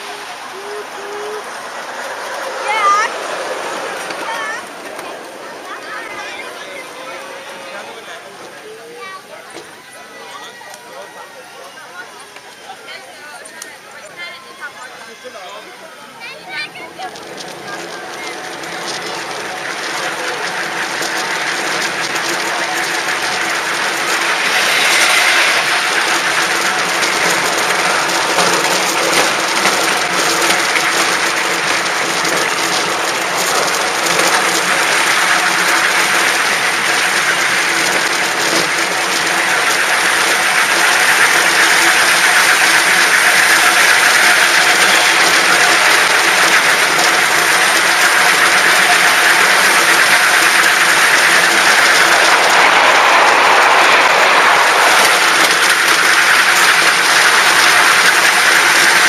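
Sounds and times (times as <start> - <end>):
miniature train hissing: 0.0 - 59.0.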